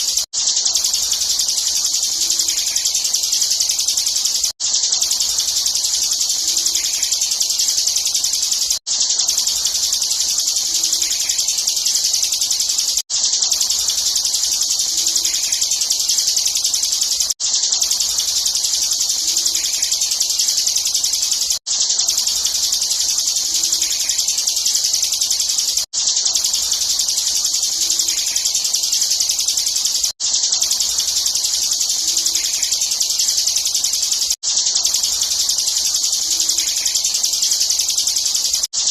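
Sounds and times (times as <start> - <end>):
bird singing fast high trill: 0.0 - 38.7.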